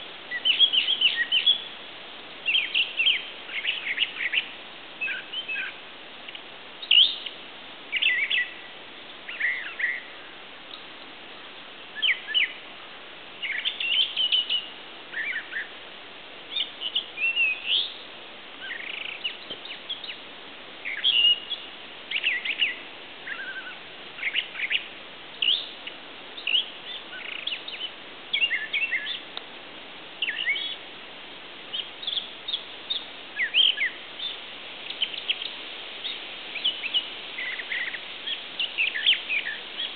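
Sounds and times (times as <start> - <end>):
faint background hiss: 0.0 - 39.9
songbirds chirping: 0.0 - 39.9.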